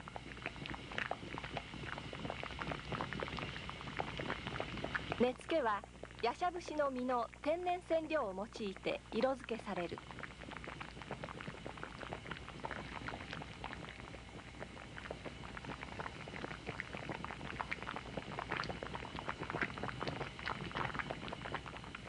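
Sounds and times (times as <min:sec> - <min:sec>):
dye bath boiling: 0:00.0 - 0:22.0.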